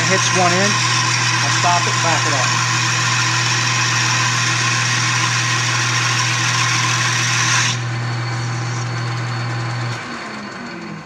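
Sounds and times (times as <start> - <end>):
lathe motor hum: 0.0 - 11.0.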